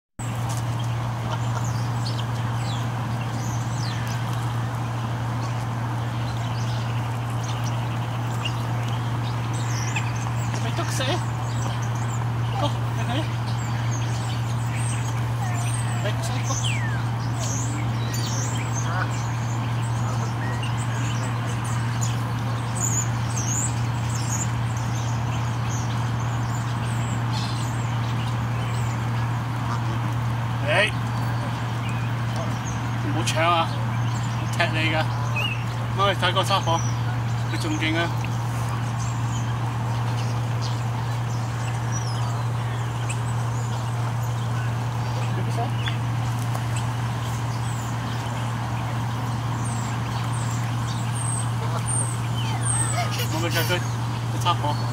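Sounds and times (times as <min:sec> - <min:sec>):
birds chirping: 0:00.2 - 0:54.9
steady low hum: 0:00.2 - 0:54.9.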